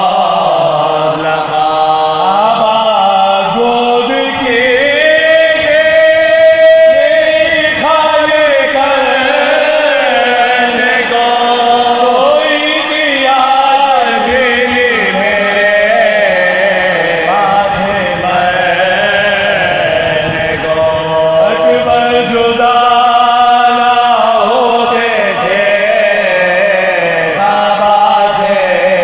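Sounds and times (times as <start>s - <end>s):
men chanting a lament: 0.0s - 29.0s.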